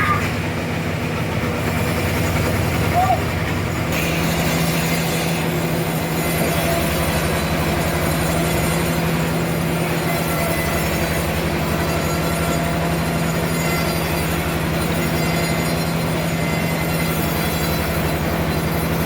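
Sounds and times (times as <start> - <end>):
sawmill machinery humming: 0.0 - 19.0.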